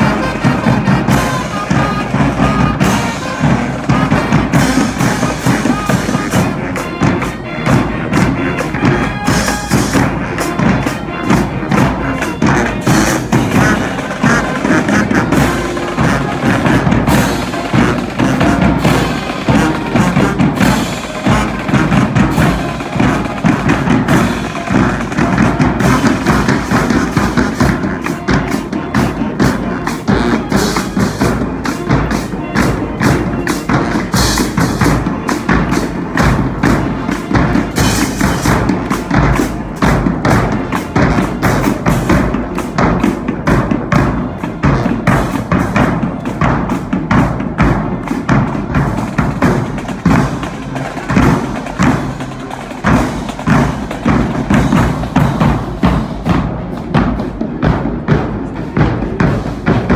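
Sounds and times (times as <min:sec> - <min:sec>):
drumline of snare and bass drums: 0:00.0 - 0:59.9
saxophones and brass: 0:00.0 - 0:59.9.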